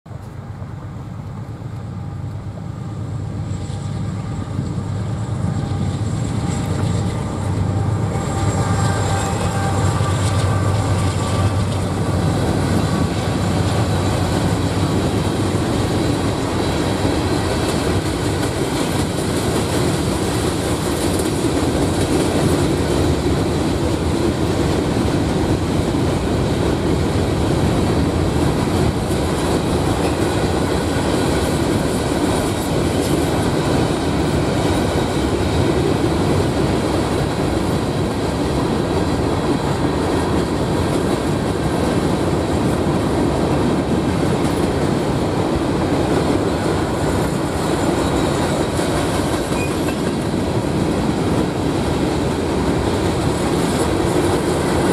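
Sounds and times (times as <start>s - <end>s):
locomotive engine drone: 0.1s - 54.9s
freight cars rumbling and clattering: 1.2s - 54.9s.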